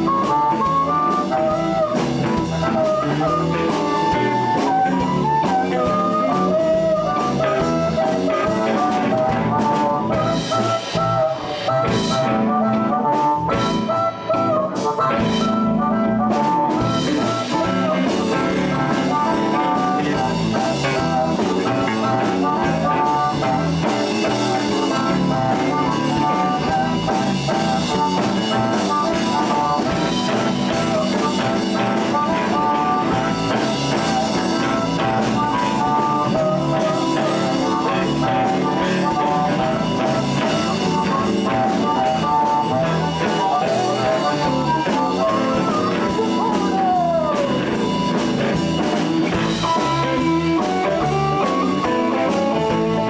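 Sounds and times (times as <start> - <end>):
blues band playing: 0.0 - 53.0
lead line of held notes: 0.0 - 53.0.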